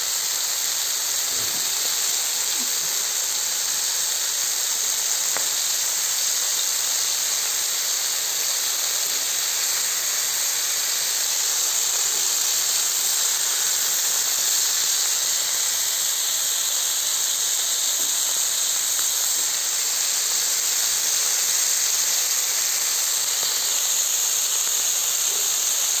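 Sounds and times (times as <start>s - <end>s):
sausages sizzling on a griddle: 0.0s - 26.0s.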